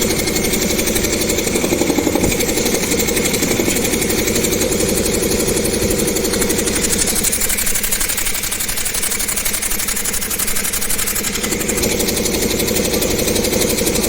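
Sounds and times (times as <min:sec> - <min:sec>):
air compressor pulsing: 0:00.0 - 0:14.0.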